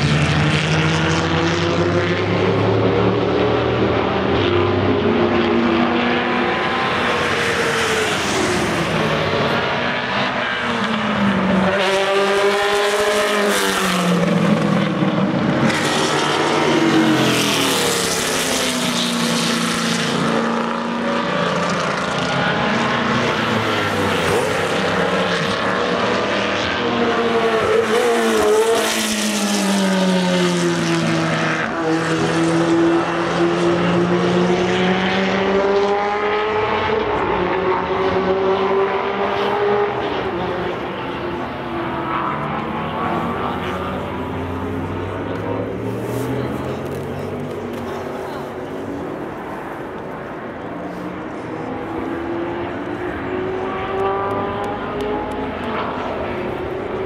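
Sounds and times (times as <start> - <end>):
racing car engines passing: 0.0 - 57.0.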